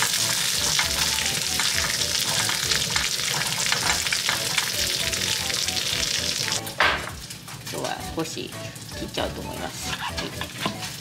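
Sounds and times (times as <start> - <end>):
fish sizzling in frying pan: 0.0 - 11.0.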